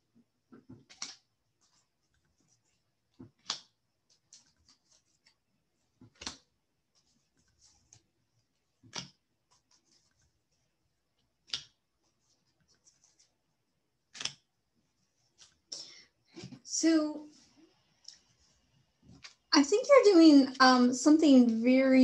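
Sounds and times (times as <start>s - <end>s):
deck of cards rustling: 0.5s - 20.1s.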